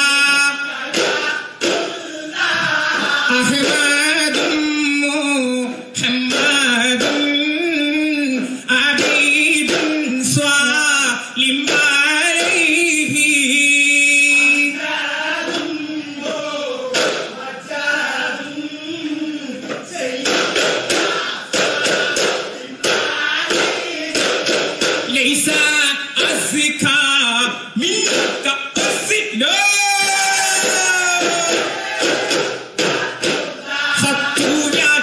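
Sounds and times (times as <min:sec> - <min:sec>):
frame drums struck in rhythm: 0:00.0 - 0:35.0
men singing in unison: 0:00.0 - 0:35.0.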